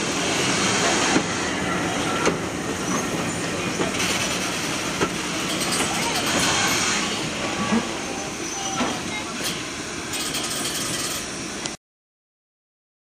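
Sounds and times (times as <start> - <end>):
wheels rumbling on rails: 0.0 - 11.8.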